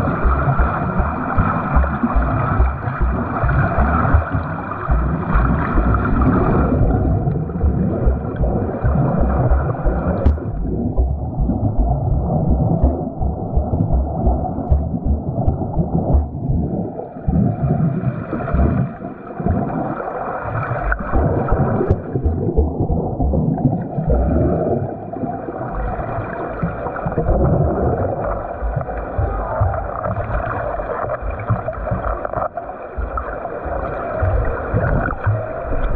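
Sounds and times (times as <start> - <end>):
arm strokes churning water: 0.0 - 35.9.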